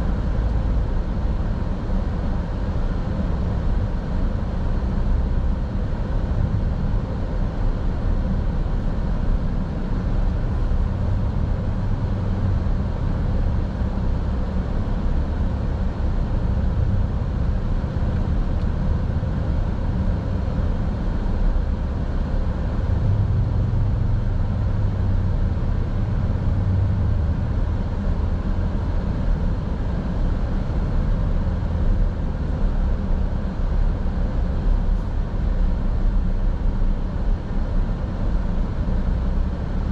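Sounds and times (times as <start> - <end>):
car road rumble from inside: 0.0 - 39.9.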